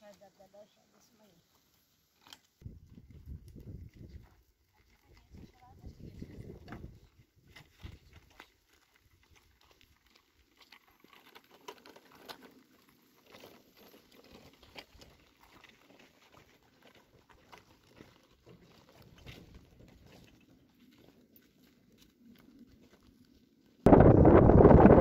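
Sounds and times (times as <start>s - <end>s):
wheels crunching on dirt: 1.4s - 25.0s
footsteps on dirt path: 2.6s - 25.0s.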